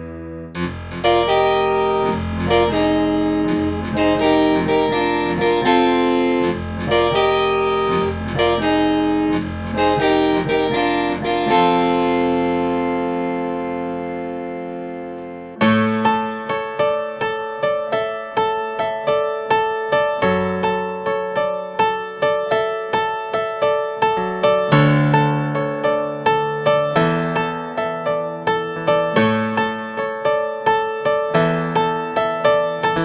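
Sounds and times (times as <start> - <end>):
digital piano chords: 0.0 - 33.0.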